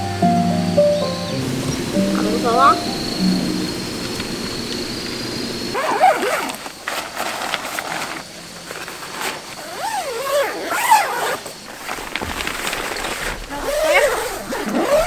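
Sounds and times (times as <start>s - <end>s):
tent fabric rustling: 1.3s - 15.0s.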